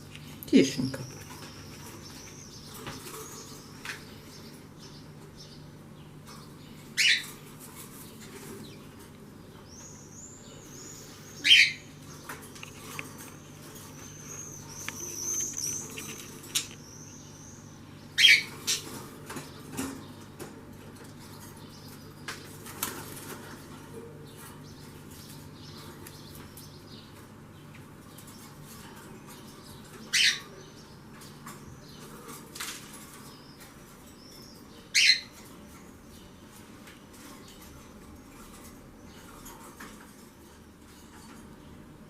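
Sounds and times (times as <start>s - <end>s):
high warbling bird chatter: 0.4s - 41.9s.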